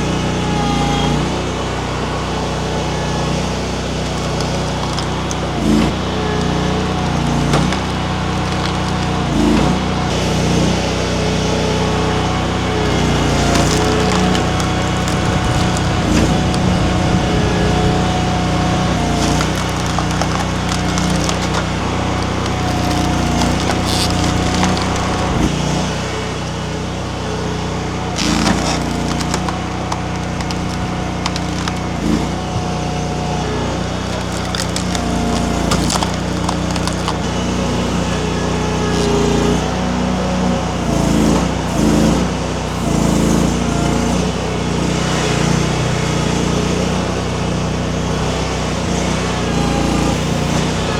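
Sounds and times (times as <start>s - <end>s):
skid steer engine running: 0.0s - 50.9s
wood cracking and splintering: 0.1s - 44.2s.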